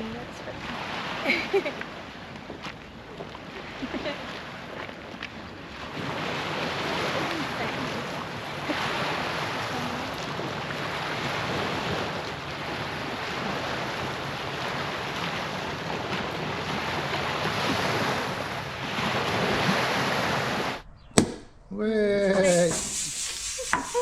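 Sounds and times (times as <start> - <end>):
sea surf rushing: 0.0 - 2.4, 3.4 - 21.0, 21.7 - 24.0.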